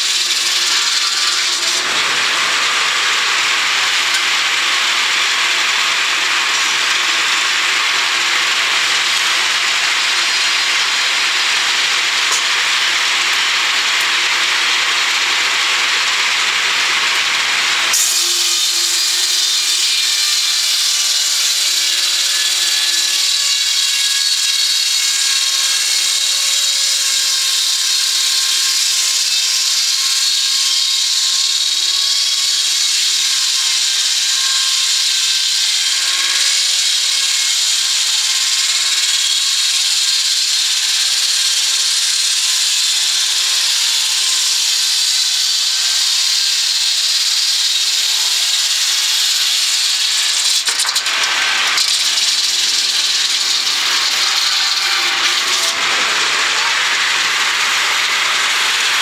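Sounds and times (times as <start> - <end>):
circular saw ripping through log: 0.0 - 41.5, 42.4 - 59.0.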